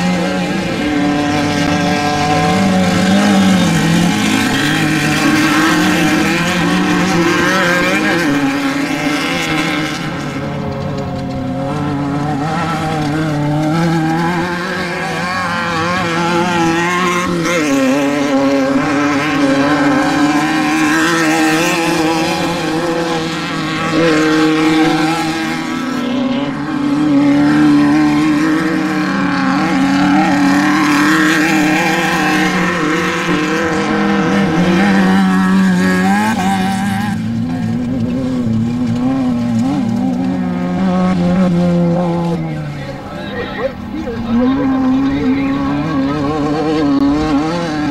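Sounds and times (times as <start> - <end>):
race vehicle engines revving: 0.0 - 47.9.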